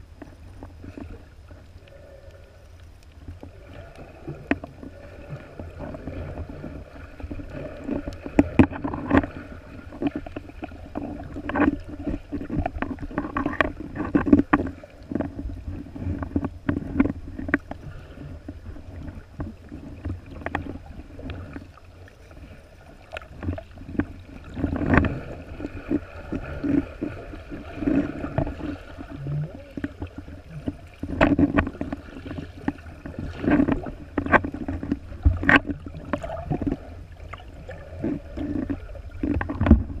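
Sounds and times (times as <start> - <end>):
clicks and knocks underwater: 0.0 - 40.0
underwater rumble of moving water: 0.0 - 40.0.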